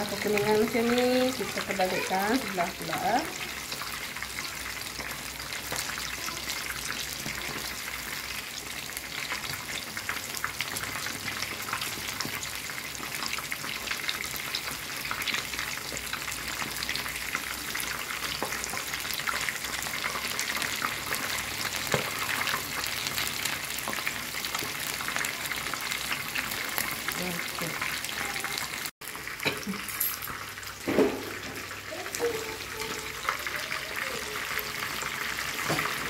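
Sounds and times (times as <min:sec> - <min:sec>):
chicken deep-frying in oil: 0:00.0 - 0:36.0.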